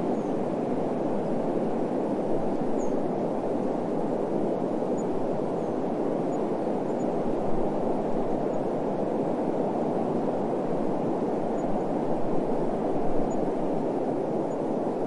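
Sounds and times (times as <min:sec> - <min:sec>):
steady wind rushing: 0:00.0 - 0:15.0.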